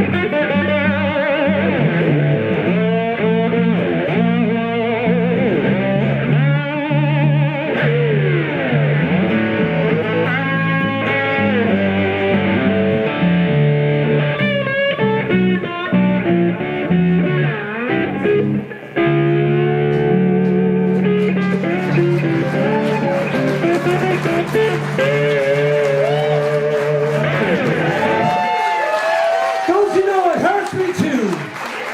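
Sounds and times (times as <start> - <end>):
lead guitar with bent notes: 0.0 - 28.7
guitar picking bass line: 0.0 - 29.0.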